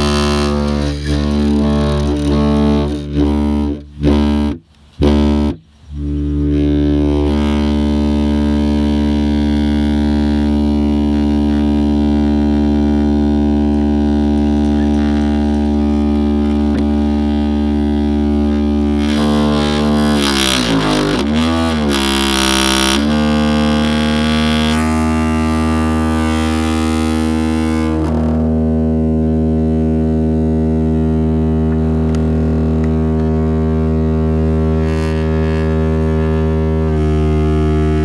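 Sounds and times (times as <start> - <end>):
low buzzing test tone: 0.0 - 38.0.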